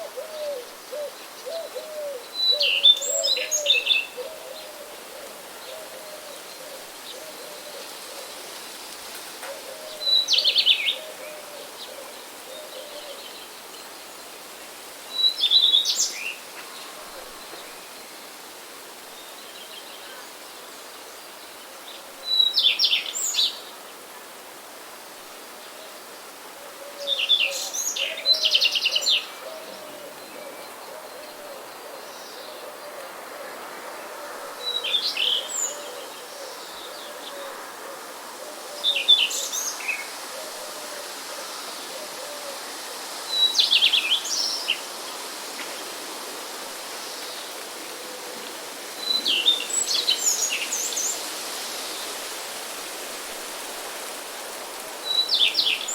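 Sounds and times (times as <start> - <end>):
songbird singing: 0.0 - 8.6, 9.4 - 18.4, 19.1 - 23.8, 26.7 - 40.7, 41.4 - 46.0, 46.9 - 51.3, 54.8 - 55.9
wind and rain hiss: 0.0 - 55.9.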